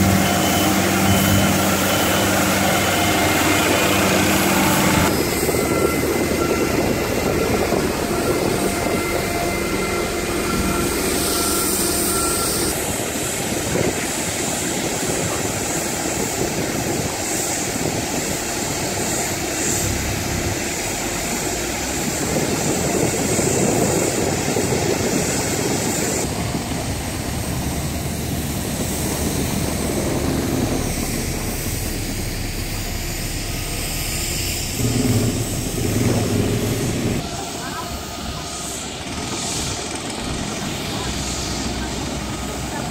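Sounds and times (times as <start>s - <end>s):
heavy machinery engine running: 0.0s - 42.9s.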